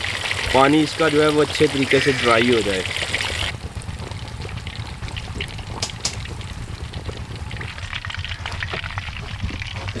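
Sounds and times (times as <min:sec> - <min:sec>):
fish sizzling in oil: 0:00.0 - 0:03.6, 0:04.4 - 0:10.0
constant low rumble: 0:00.0 - 0:10.0.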